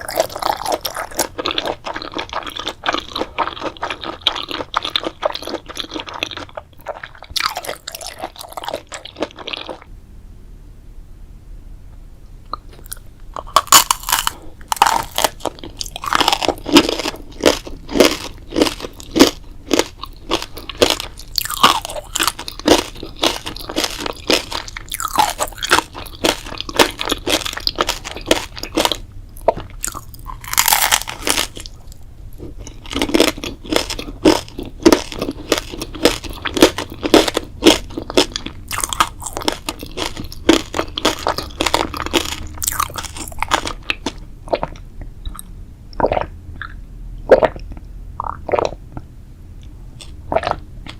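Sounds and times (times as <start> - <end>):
person chewing crunchy food: 0.0 - 9.9, 12.5 - 48.8, 49.6 - 50.9.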